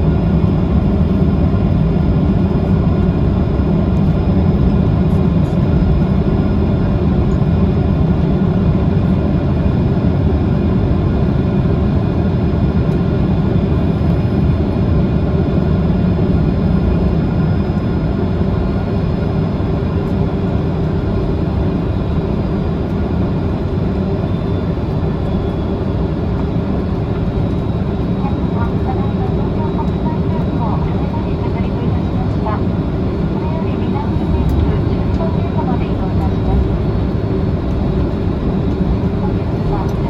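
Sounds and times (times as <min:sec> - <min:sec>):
jet airliner engine rumble: 0:00.0 - 0:40.0.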